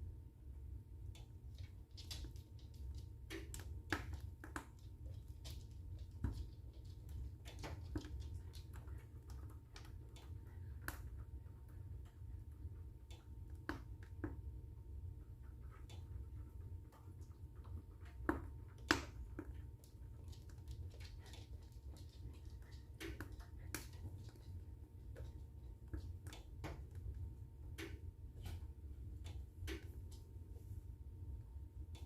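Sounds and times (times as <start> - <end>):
low steady rumble of fire: 0.0 - 32.0
wood fire crackling: 1.1 - 30.5.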